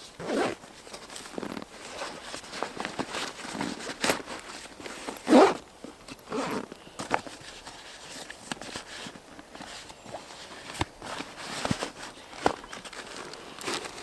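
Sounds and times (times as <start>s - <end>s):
camping gear rustling and scraping: 0.0s - 14.0s.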